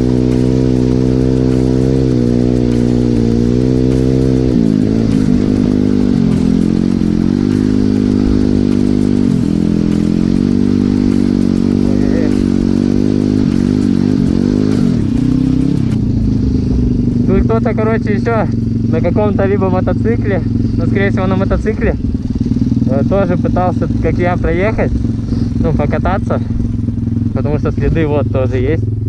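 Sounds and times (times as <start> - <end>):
motorbike engine revving: 0.0 - 29.0.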